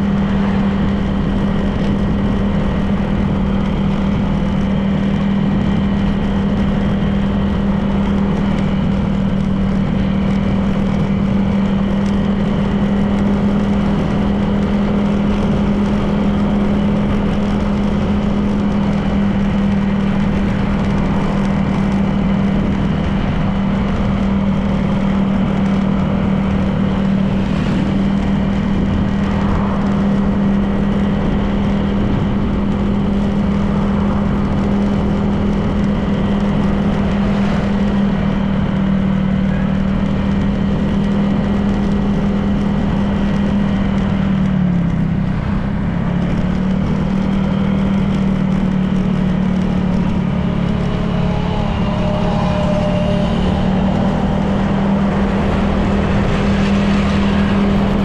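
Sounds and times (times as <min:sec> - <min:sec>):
road noise: 0:00.0 - 0:58.0
scooter engine cruising: 0:00.0 - 0:58.0.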